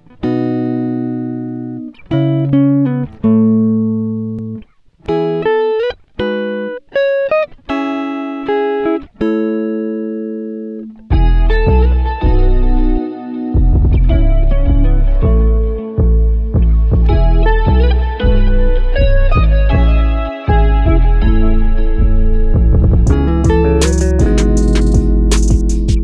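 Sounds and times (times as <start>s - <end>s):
plucked guitar chords: 0.0s - 26.0s.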